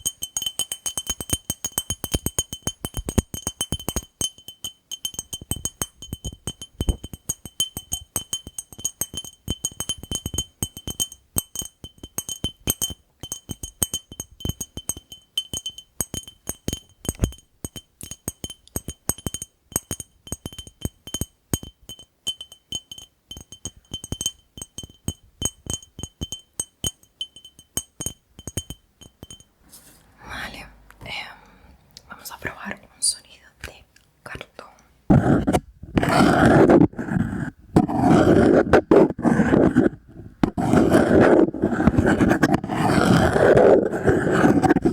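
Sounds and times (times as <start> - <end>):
tapping on glass jar: 0.0 - 29.6, 37.8 - 44.9.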